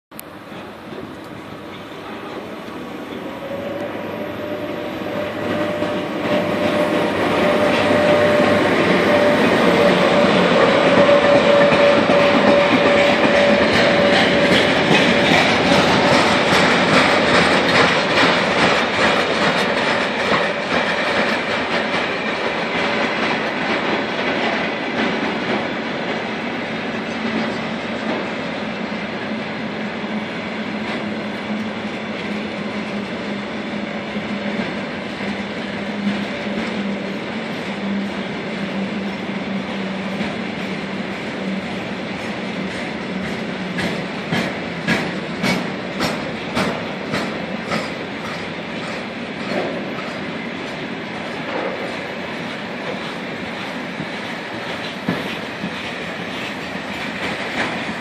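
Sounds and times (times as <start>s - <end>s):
freight train rumble: 0.1s - 58.0s
steady train whine: 0.1s - 58.0s
wagons clacking over rail joints: 0.5s - 28.4s, 34.2s - 58.0s.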